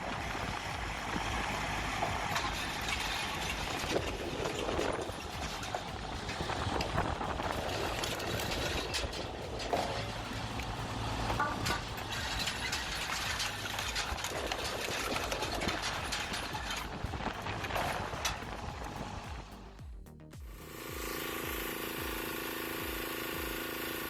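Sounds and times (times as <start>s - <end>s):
machinery and wood clattering: 0.0s - 19.7s
engine and hydraulic drone: 0.0s - 19.8s, 20.4s - 24.0s.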